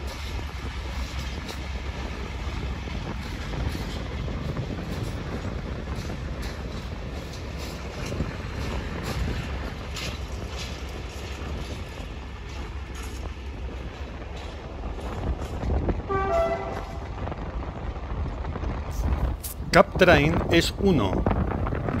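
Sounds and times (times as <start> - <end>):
wheels clanking over rail joints: 0.0 - 19.5
wheels rumbling on rail: 0.0 - 22.0.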